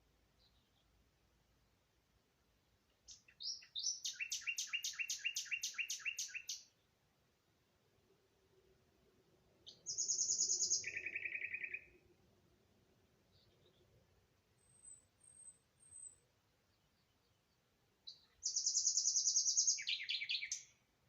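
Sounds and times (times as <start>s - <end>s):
songbirds singing: 0.2s - 1.8s, 2.8s - 7.0s, 8.4s - 20.9s.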